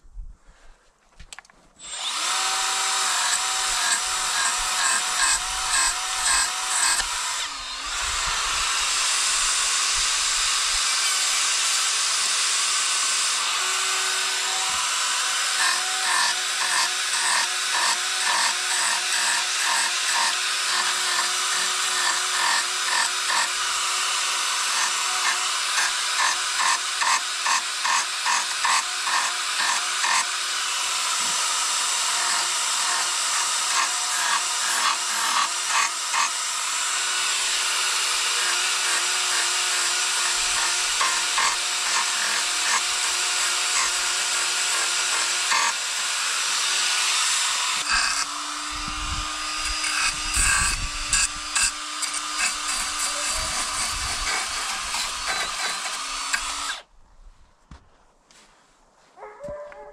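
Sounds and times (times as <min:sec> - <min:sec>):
carving bit strokes on wood: 0:01.8 - 0:56.8
power carving tool motor whining: 0:01.8 - 0:56.9.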